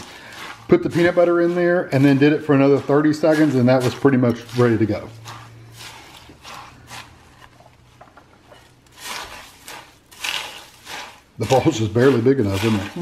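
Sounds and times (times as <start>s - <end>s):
spatula stirring crunchy cereal: 0.0s - 13.0s.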